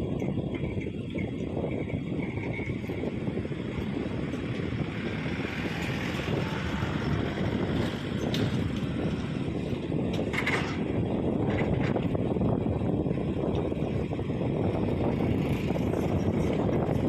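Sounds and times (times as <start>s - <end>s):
heavy machinery engine rumbling: 0.0s - 17.0s.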